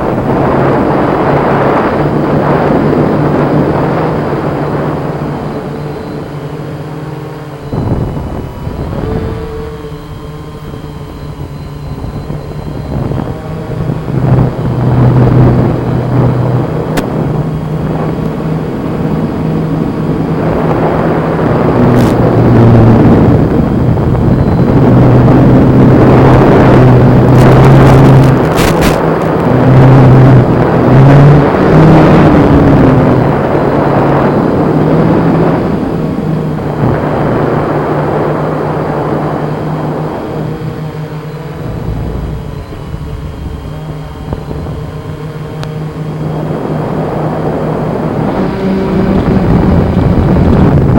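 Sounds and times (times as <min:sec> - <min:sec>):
drone propellers whirring: 0:00.0 - 0:50.9
rushing wind: 0:00.0 - 0:50.9.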